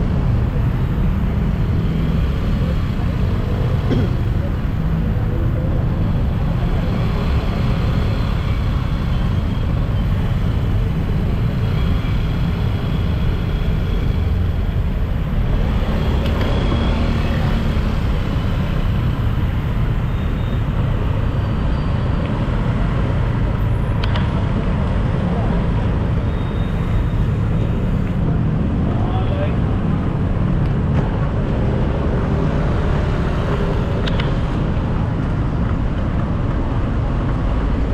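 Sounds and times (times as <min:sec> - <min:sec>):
city street traffic rumble: 0:00.0 - 0:37.9.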